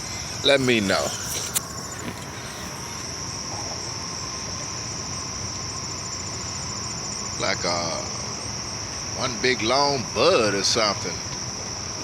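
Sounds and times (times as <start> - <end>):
insects chirping chorus: 0.0 - 11.3.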